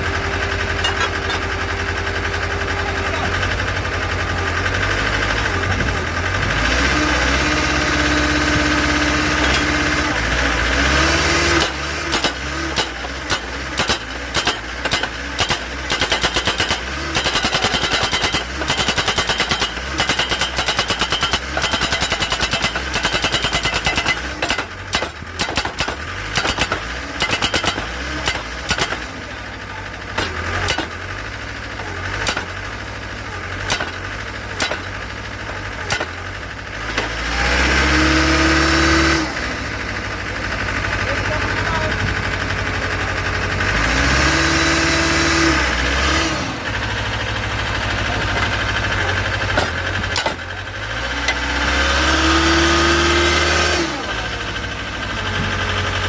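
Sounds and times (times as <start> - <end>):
machine engine droning: 0.0 - 56.0
hydraulic breaker hammering steel post: 0.3 - 4.2, 6.8 - 39.1, 43.9 - 56.0.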